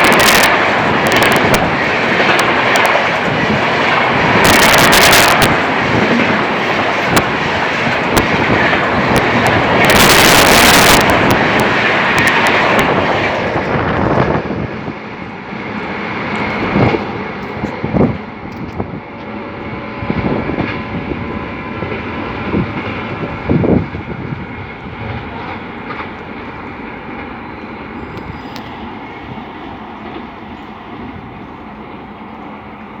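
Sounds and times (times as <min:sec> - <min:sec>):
loud train clanks: 0:00.0 - 0:33.0
train rushing past: 0:00.0 - 0:33.0
wheels rattling on rail: 0:00.0 - 0:33.0.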